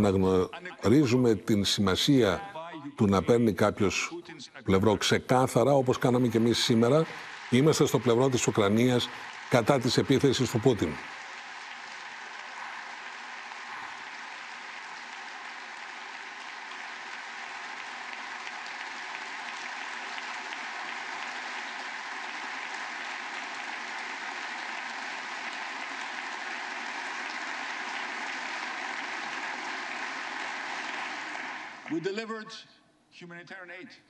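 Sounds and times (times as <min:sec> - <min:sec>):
crowd applauding: 0:04.7 - 0:32.2.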